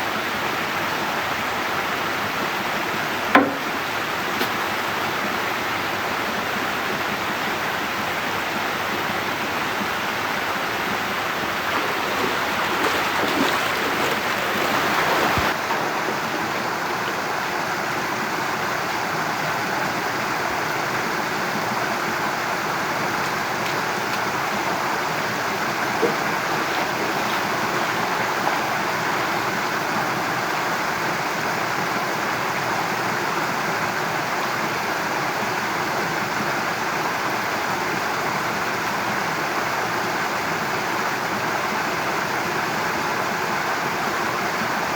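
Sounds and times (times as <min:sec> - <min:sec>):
rushing water hiss: 0:00.0 - 0:44.9.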